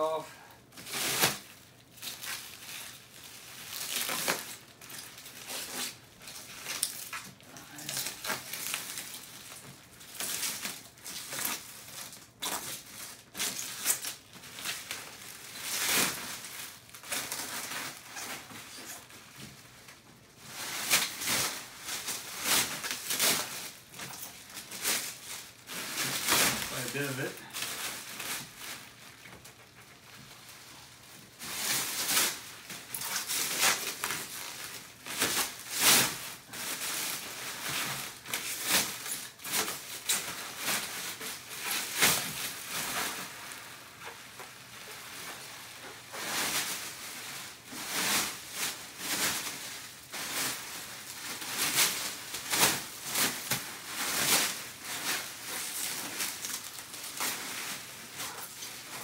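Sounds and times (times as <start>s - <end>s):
plastic wrapping crinkling: 0.0s - 59.0s.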